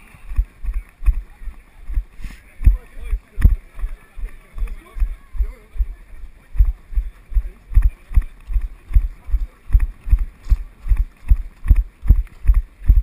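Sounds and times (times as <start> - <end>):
running footsteps on grass and gravel: 0.0 - 13.0.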